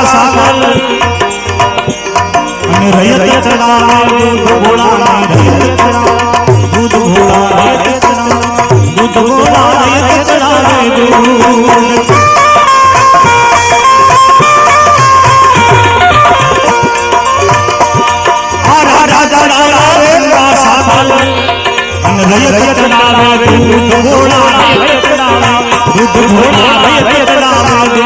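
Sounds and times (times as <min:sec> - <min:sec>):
tabla drumming: 0:00.0 - 0:28.0.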